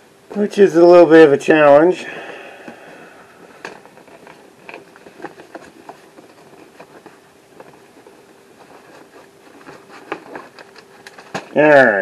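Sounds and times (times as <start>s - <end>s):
hands handling cardboard box: 2.2s - 12.0s.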